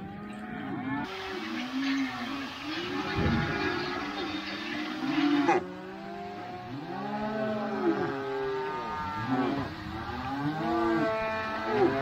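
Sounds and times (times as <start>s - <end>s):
calves bawling: 0.0s - 12.0s.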